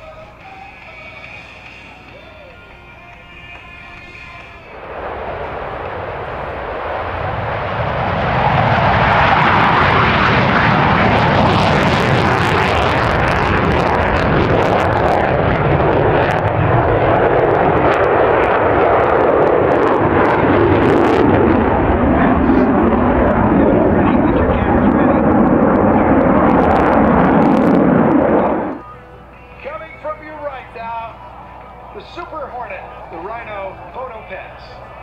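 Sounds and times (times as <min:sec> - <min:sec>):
jet engines roaring: 0:01.2 - 0:35.0.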